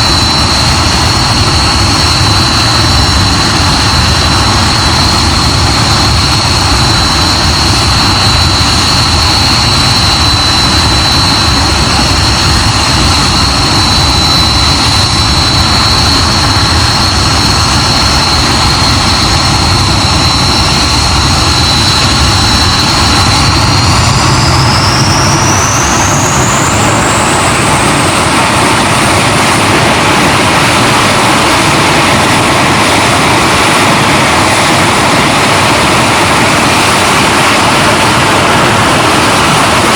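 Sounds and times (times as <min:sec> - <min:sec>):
jet engine whine and roar: 0:00.0 - 0:39.9.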